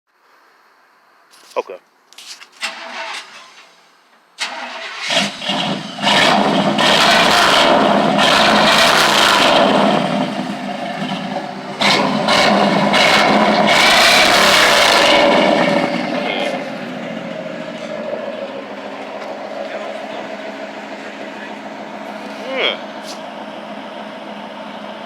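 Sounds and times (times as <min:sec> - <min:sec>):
truck engine starting and revving: 0:02.5 - 0:25.0.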